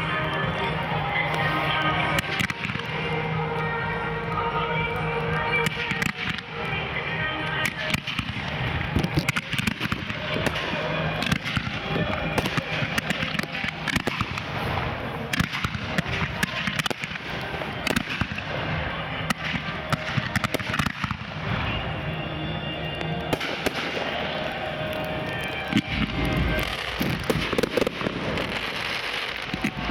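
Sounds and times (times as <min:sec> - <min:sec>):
fireworks launching and bursting: 0:00.0 - 0:29.9.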